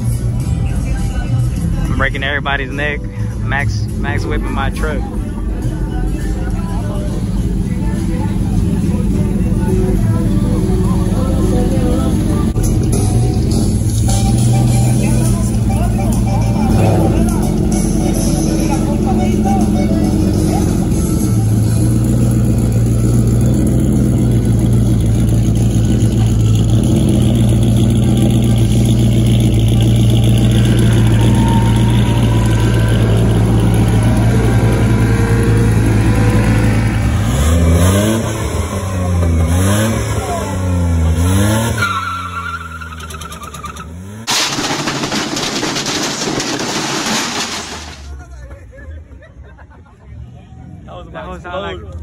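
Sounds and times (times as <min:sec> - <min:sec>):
pickup engine revving: 0:00.0 - 0:48.2.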